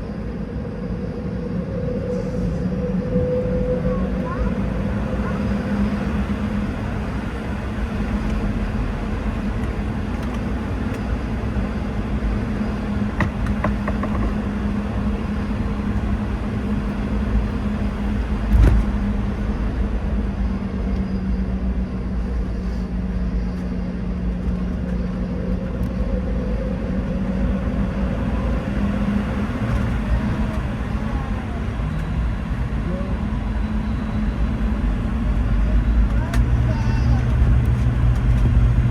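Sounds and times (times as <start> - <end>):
aircraft cabin hum: 0.0 - 38.9.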